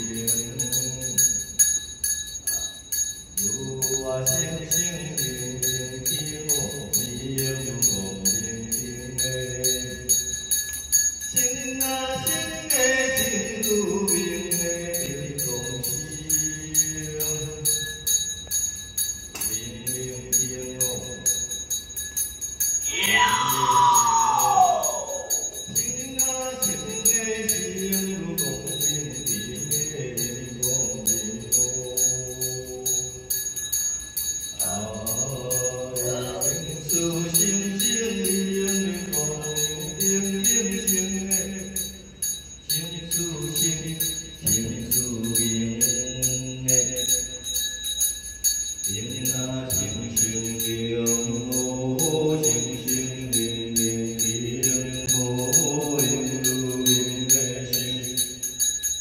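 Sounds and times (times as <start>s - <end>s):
bell jingling: 0.0s - 59.0s.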